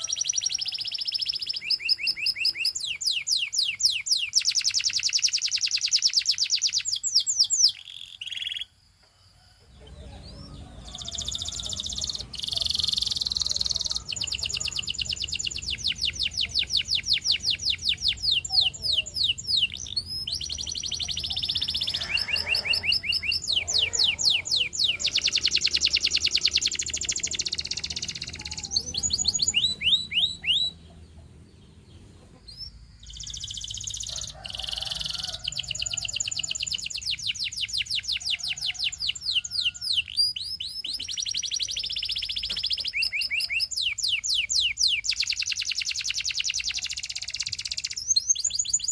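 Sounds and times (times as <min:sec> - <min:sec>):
canary singing trills: 0:00.0 - 0:08.8, 0:09.4 - 0:48.9.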